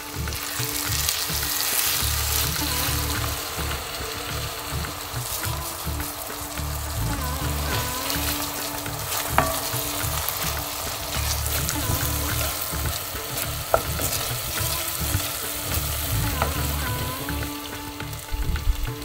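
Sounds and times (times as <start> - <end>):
vegetables sizzling in oil: 0.0 - 19.0
wooden spoon stirring: 0.1 - 17.9.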